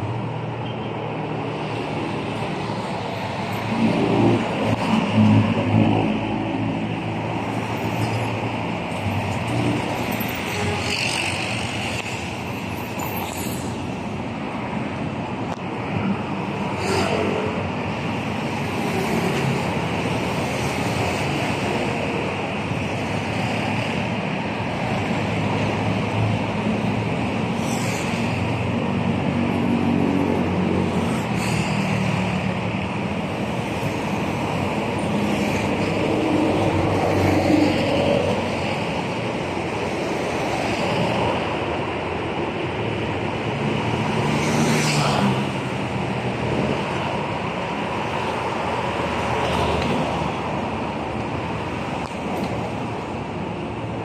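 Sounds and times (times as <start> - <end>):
cars and motorcycles passing: 0.0 - 54.0.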